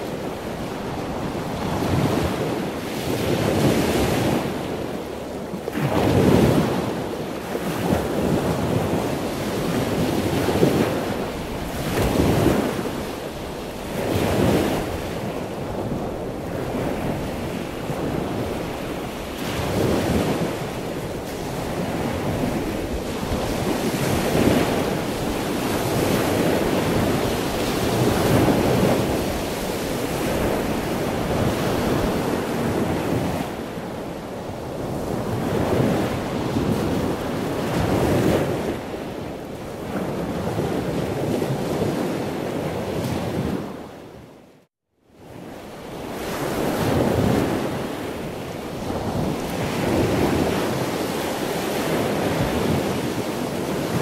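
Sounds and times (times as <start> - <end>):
ocean waves breaking: 0.0 - 44.2, 45.3 - 54.0.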